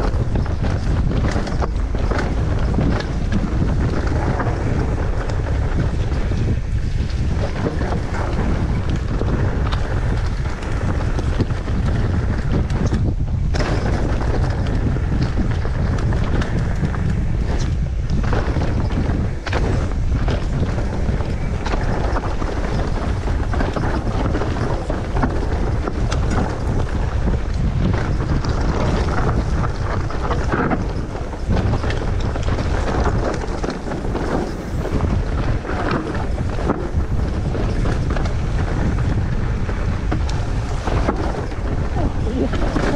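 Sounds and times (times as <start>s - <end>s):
bike clattering over bumps: 0.0s - 42.9s
bike tyres over dirt and stones: 0.0s - 42.9s
wind rushing over microphone: 0.0s - 42.9s.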